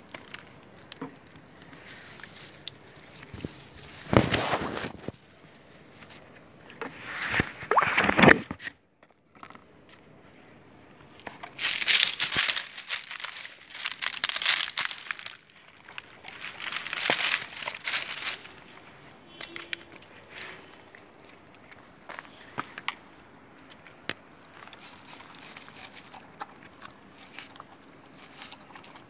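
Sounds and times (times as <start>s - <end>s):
crinkling and rustling: 0.0s - 29.0s.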